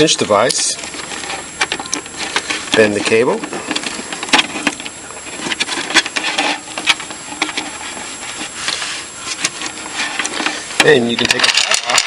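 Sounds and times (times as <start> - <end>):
cable rubbing and scraping: 0.0 - 12.0.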